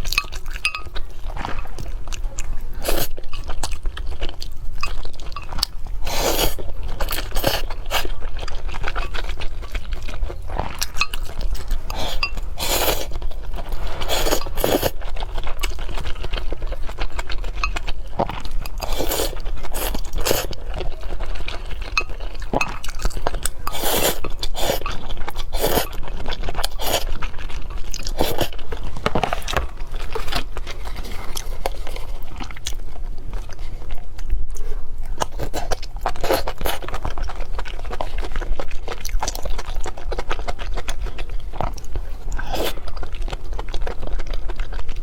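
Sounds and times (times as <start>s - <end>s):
person chewing cake: 0.0s - 45.0s.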